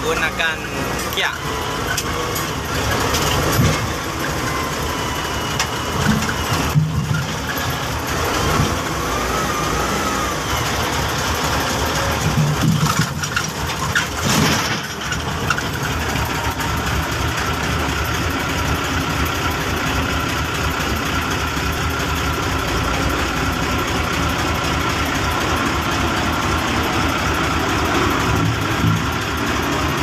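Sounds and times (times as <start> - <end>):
heavy engine running: 0.0 - 30.0.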